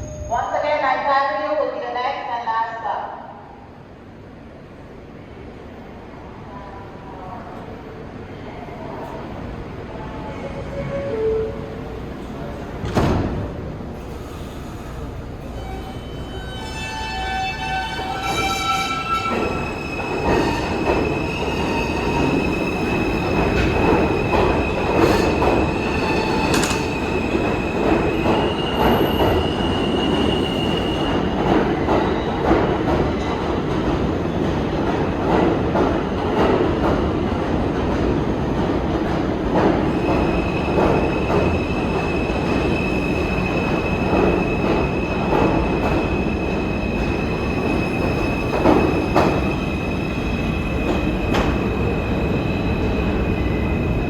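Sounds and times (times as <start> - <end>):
subway train rumbling on rails: 0.0 - 54.0.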